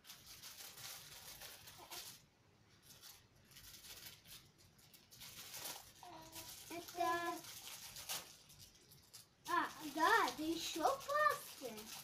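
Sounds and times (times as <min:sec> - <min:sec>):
plastic packet rustling: 0:00.0 - 0:12.0.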